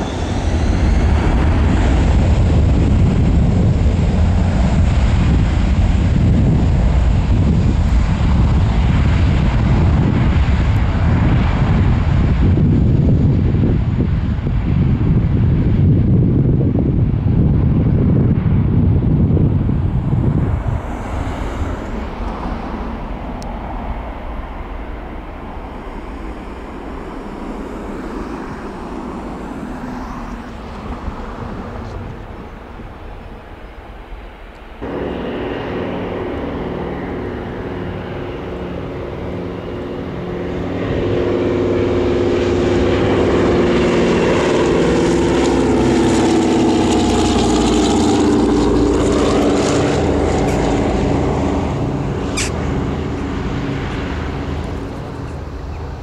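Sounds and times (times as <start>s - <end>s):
airplane engine drone: 0.0s - 56.0s
wind noise: 0.0s - 56.0s.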